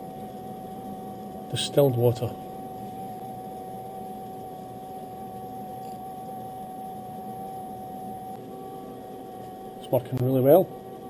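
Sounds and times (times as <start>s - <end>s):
camping stove burning: 0.0s - 11.0s
small pump humming: 0.0s - 11.0s.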